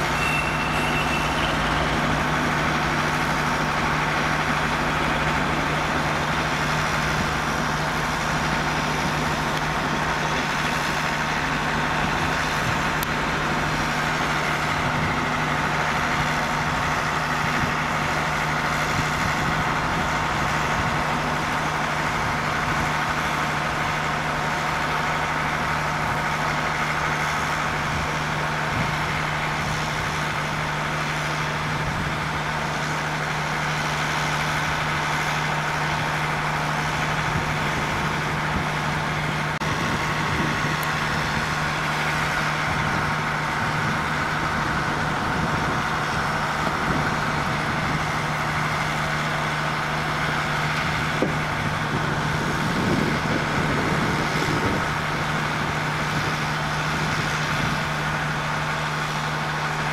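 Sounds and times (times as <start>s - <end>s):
idle train drone: 0.0s - 59.9s.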